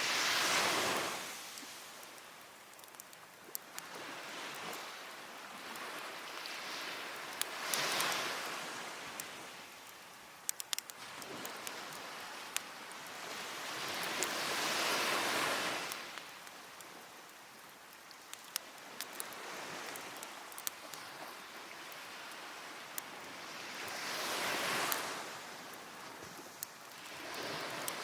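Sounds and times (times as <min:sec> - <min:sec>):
wood fire crackling: 0:00.0 - 0:06.6, 0:07.2 - 0:23.4, 0:24.8 - 0:28.0
sea waves breaking: 0:00.0 - 0:17.1, 0:18.3 - 0:28.0.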